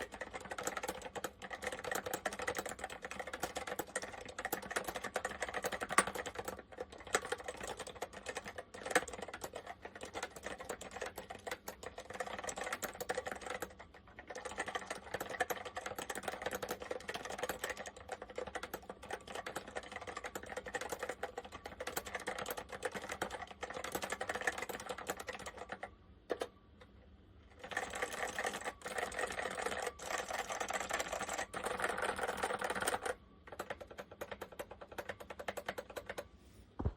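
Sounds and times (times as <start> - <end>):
mechanical keyboard typing: 0.0 - 26.5, 27.5 - 36.3.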